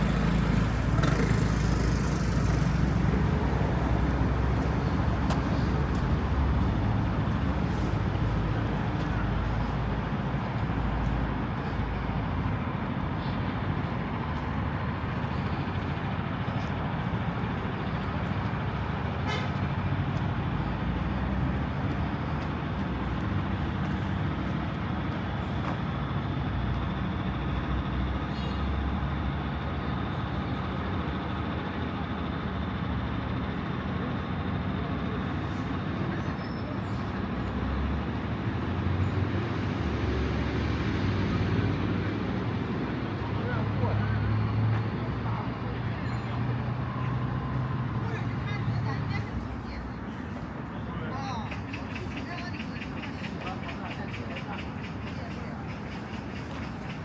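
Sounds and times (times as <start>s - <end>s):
passing cars and buses: 0.0s - 57.0s.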